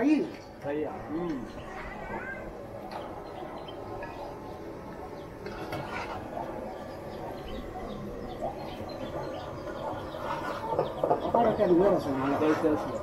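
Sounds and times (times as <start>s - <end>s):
outdoor hum: 0.0s - 13.0s
small birds chirping: 0.0s - 13.0s.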